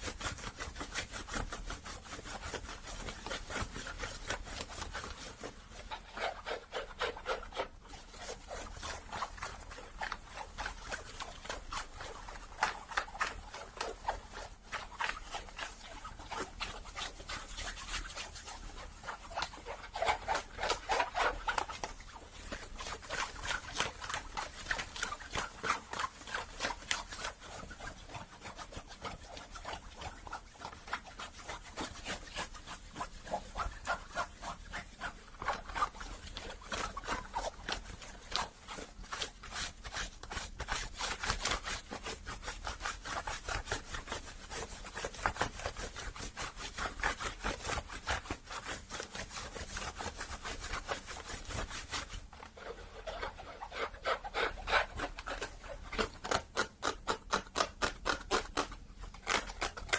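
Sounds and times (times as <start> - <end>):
scratching and rubbing on a hat: 0.0 - 59.9.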